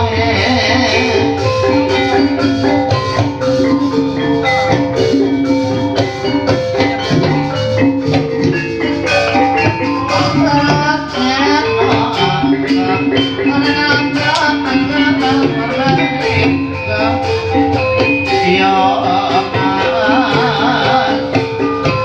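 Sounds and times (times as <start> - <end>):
mallet-struck pitched percussion: 0.0 - 22.0
steady drum strokes: 0.0 - 22.0.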